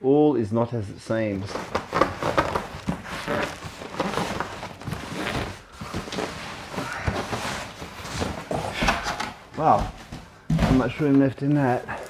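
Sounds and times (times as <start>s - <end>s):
cardboard box rustling: 1.4s - 12.0s.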